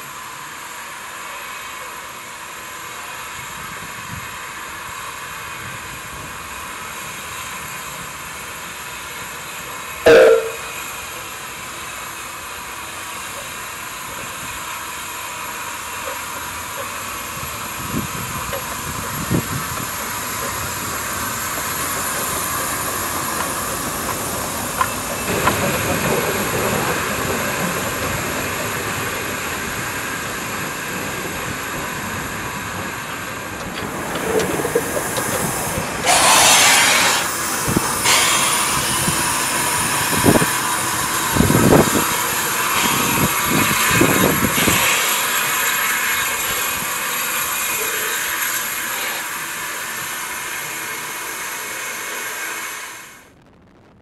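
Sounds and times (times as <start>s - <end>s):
steam locomotive hissing: 0.0s - 53.3s
loud rush of steam: 0.0s - 54.0s.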